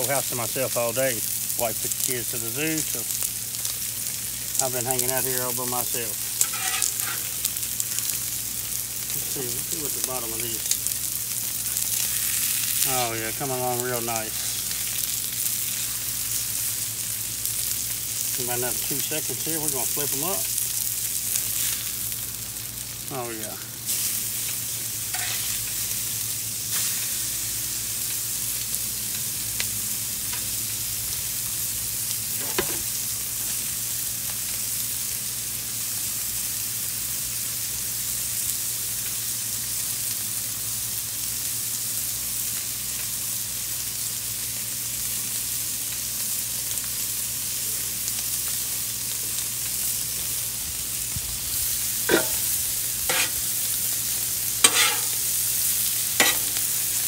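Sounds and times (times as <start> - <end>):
steaks sizzling on griddle: 0.0 - 57.0.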